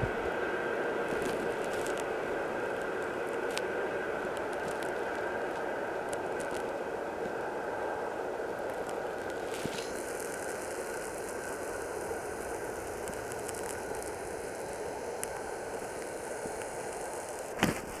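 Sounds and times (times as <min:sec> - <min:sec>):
passenger train rumbling: 0:00.0 - 0:18.0.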